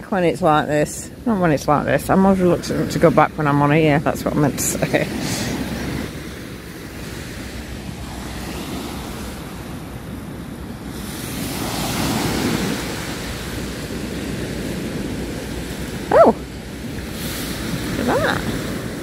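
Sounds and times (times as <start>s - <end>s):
sea surf: 1.8s - 19.0s.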